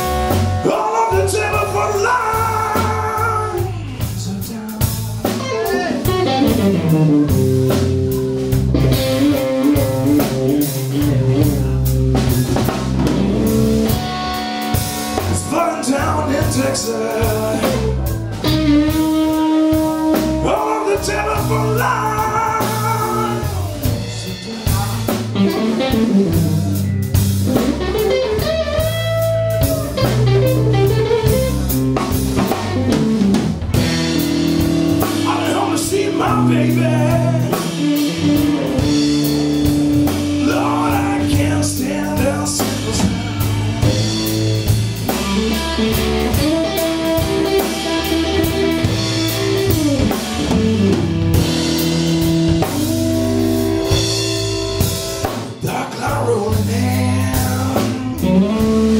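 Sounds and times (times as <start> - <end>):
electric guitar bending notes: 0.0 - 4.2, 5.2 - 58.9
drum kit: 0.0 - 58.9
electric bass: 0.0 - 58.9.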